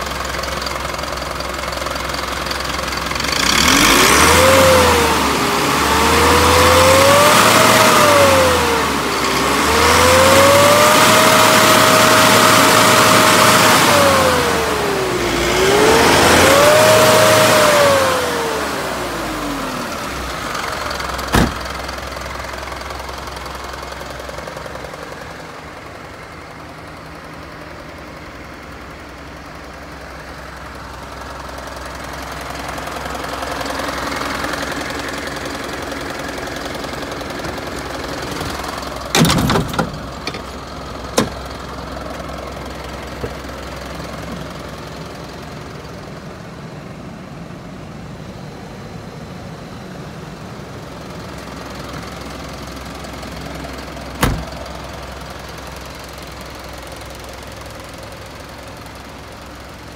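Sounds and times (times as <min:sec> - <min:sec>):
diesel truck engine revving and idling: 0:00.0 - 0:59.9.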